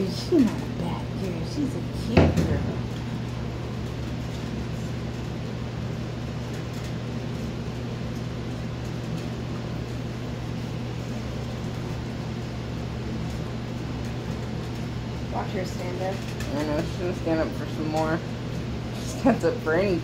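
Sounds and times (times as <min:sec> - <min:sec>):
low mechanical hum with hiss: 0:00.0 - 0:20.0.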